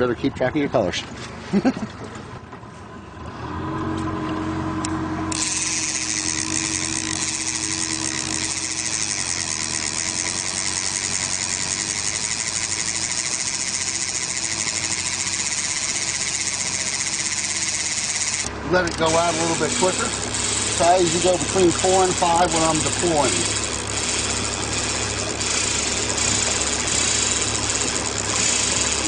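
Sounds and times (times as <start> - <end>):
boat motor humming: 0.0 - 29.0
fishing reel clicker ratcheting: 5.3 - 29.0.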